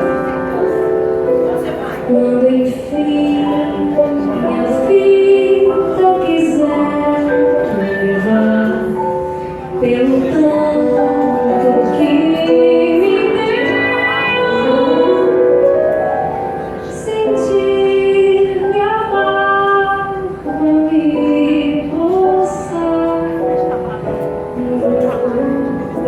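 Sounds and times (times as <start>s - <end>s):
instrumental accompaniment: 0.0s - 26.0s
woman singing: 1.6s - 16.2s, 16.8s - 26.0s.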